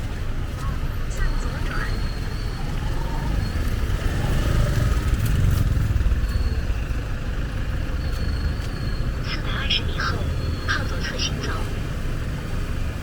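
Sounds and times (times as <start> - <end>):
street traffic rumbling: 0.0 - 13.0
vehicle passing close: 1.6 - 13.0.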